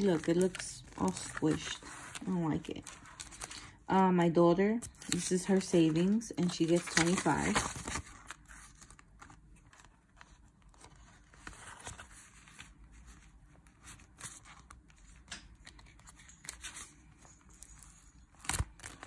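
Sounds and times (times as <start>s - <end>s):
paper banknotes rustling: 0.0s - 3.8s, 4.8s - 19.0s
plastic envelope crinkling: 0.0s - 3.8s, 4.8s - 19.0s.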